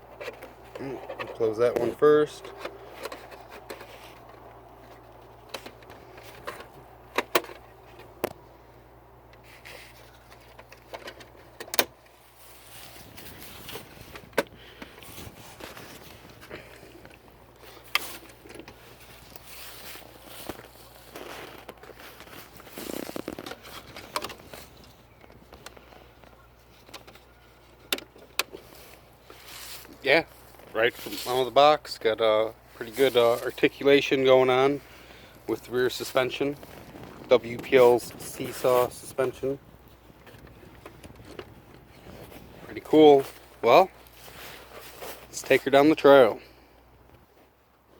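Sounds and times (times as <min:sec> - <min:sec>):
handling rustling: 0:00.0 - 0:47.9.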